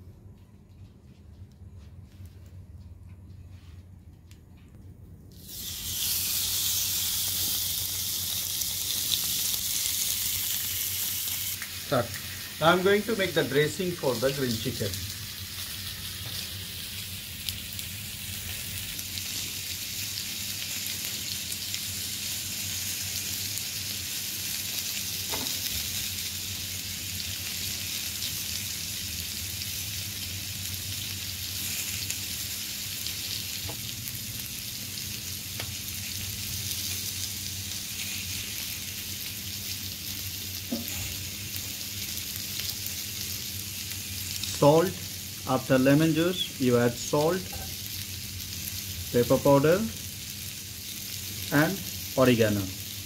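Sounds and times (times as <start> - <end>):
chicken sizzling on grill: 5.3 - 53.0.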